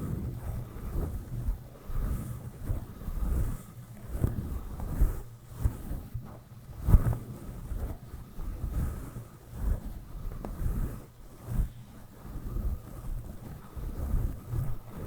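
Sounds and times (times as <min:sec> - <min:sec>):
brush rustling on microphone: 0:00.0 - 0:15.0.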